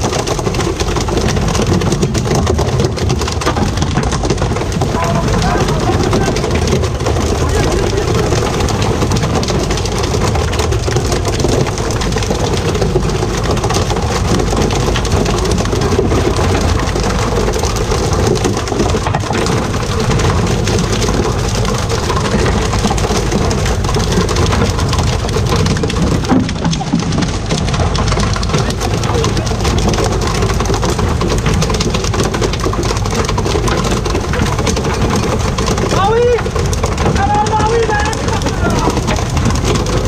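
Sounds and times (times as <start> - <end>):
boat engine running: 0.0 - 40.0
water splashing on sea surface: 0.0 - 40.0.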